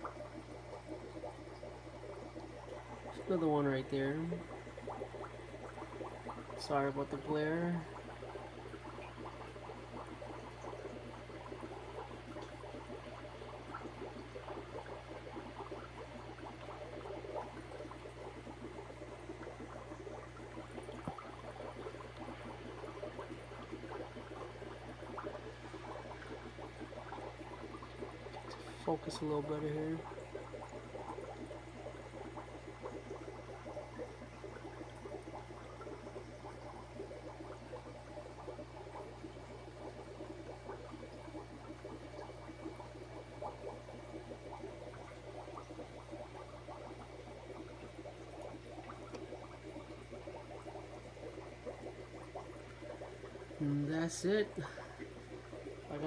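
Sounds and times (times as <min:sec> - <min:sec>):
aquarium water bubbling: 0:00.0 - 0:56.0
steady low hum: 0:00.0 - 0:56.0.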